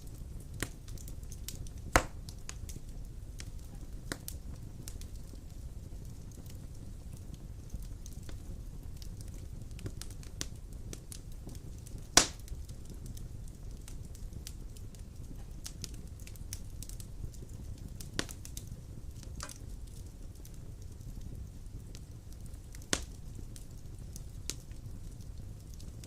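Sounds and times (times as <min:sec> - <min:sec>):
fire crackles: 0:00.0 - 0:26.0
logs burning in fireplace: 0:00.0 - 0:26.0
wood fire popping: 0:00.0 - 0:26.0.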